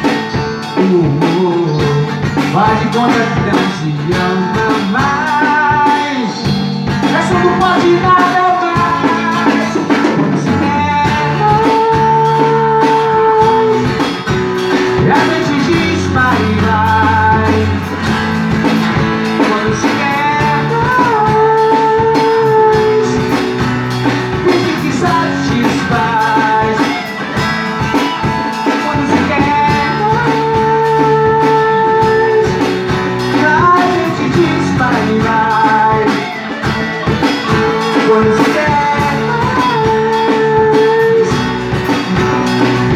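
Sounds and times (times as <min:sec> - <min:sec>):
bass guitar: 0:00.0 - 0:42.9
drums: 0:00.0 - 0:42.9
lead melody with bending notes: 0:00.0 - 0:42.9.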